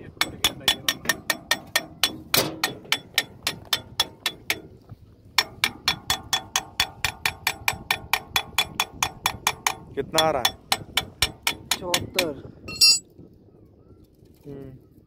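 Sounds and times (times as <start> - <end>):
spanner tapping on steel barrel: 0.2 - 4.7, 5.4 - 13.0.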